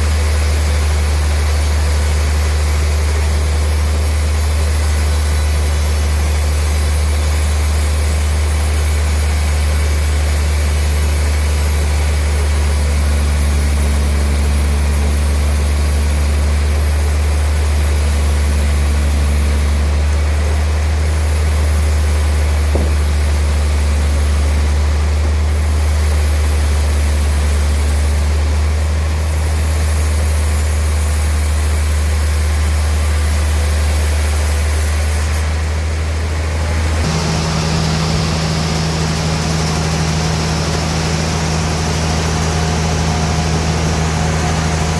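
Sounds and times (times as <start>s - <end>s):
sawmill machinery drone: 0.0s - 44.9s.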